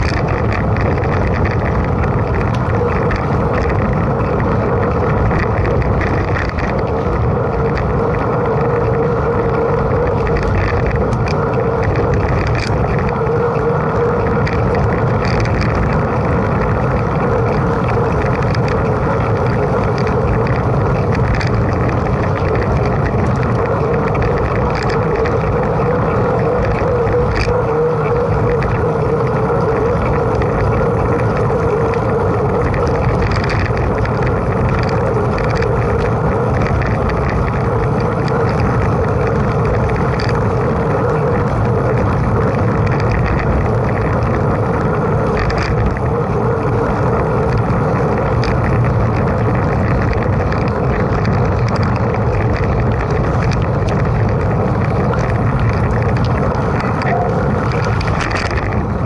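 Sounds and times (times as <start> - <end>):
bike tyres rolling on track: 0.0 - 59.0
faint ticks: 0.0 - 59.0
wind on microphone: 0.0 - 59.0.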